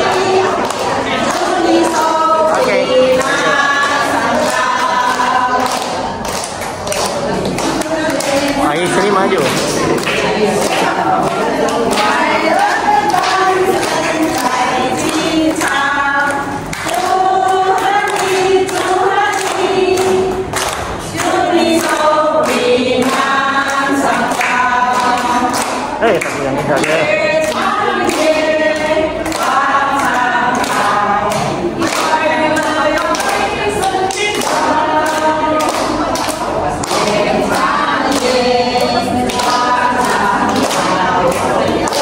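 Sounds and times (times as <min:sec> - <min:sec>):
people clapping along: 0:00.0 - 0:42.0
women singing together: 0:00.0 - 0:42.0.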